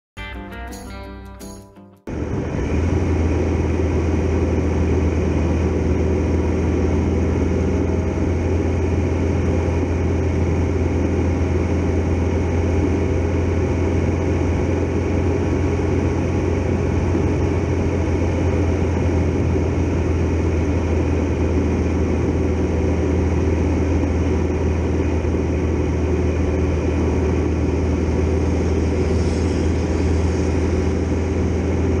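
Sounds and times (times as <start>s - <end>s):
motorcycle engine humming: 0.2s - 32.0s
road and wind noise: 2.1s - 32.0s.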